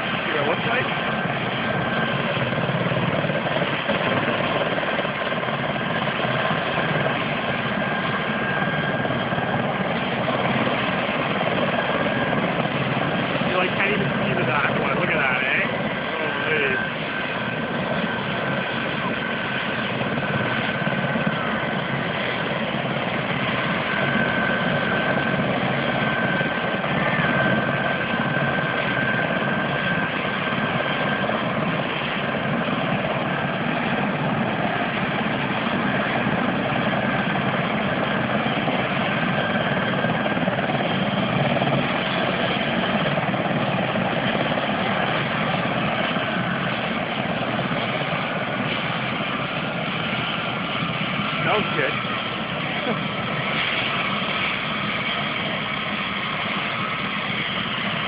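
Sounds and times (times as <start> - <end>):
helicopter idling rotor rush: 0.0 - 58.0
high turbine whine: 0.0 - 58.0.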